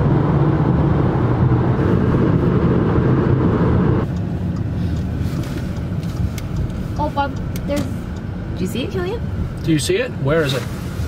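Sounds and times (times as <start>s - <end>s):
in-car hum: 0.0s - 11.0s
road and tyre noise in car: 0.0s - 11.0s.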